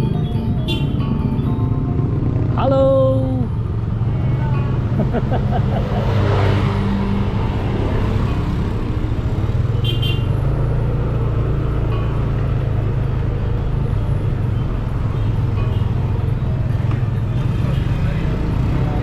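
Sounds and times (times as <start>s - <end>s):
motor vehicles passing: 0.0s - 19.0s.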